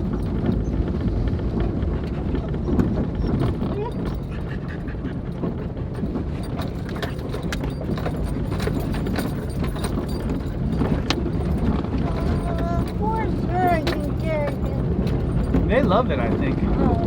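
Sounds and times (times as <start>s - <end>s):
engine rumble: 0.0s - 17.0s
suspension clunks and rattles: 0.0s - 17.0s.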